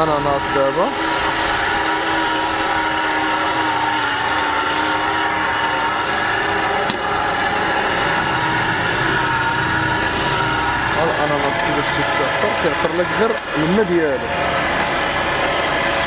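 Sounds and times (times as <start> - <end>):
juice extractor motor whine: 0.0 - 16.0.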